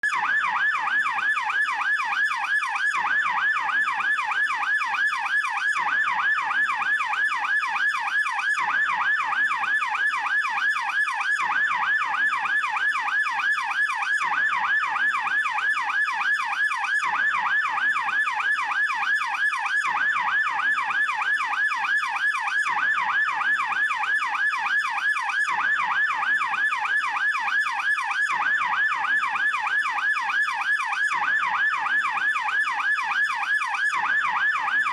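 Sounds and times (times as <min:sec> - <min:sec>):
police siren yelping: 0:00.0 - 0:34.9.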